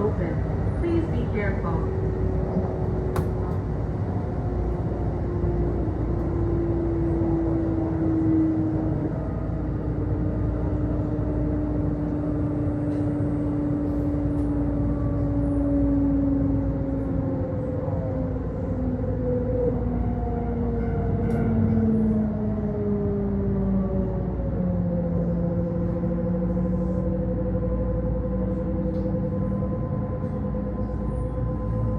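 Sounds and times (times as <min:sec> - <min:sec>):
wheels rumbling on rail: 0:00.0 - 0:31.9.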